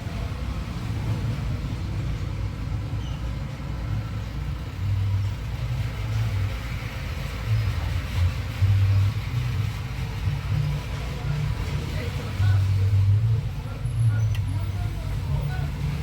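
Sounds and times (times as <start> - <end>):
motor vehicle rumble: 0.0 - 16.0.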